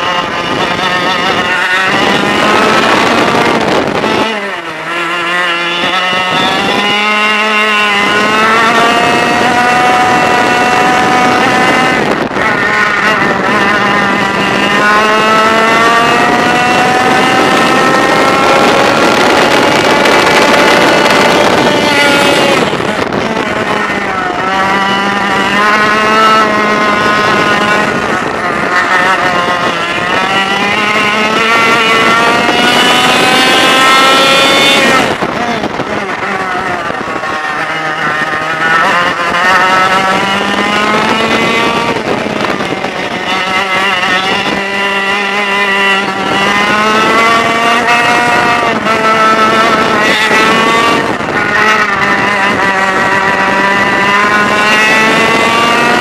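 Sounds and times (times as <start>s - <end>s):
kart engine at racing speed: 0.0s - 56.0s
wind rushing past: 0.0s - 56.0s.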